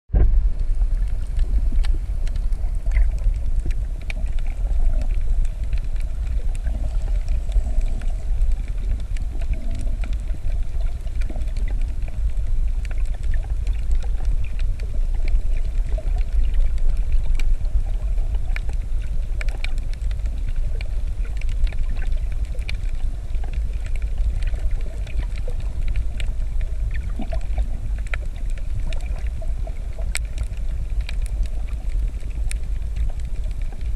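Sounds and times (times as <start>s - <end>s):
underwater rumble: 0.1s - 33.9s
faint underwater clicks: 0.2s - 33.9s.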